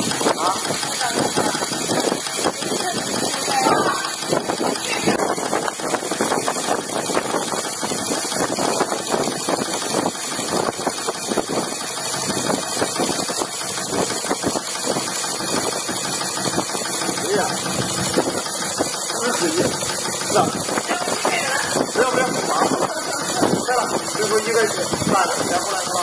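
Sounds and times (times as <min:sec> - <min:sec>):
pump rattling chatter: 0:00.0 - 0:26.0.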